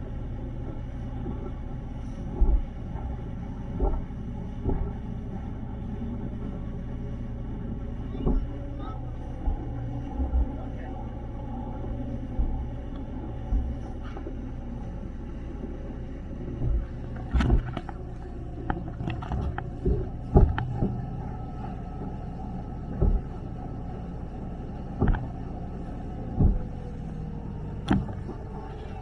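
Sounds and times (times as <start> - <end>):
motorboat engine running: 0.0 - 29.0.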